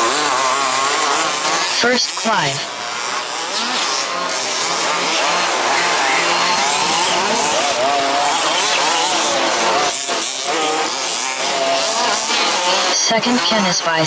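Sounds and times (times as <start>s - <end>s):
small two-stroke engines buzzing: 0.0s - 14.0s.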